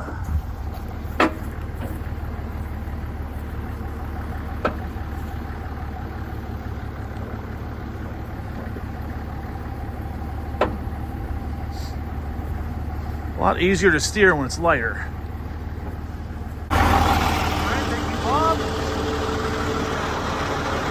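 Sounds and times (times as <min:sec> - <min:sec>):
tractor engine idling: 0:00.0 - 0:20.9.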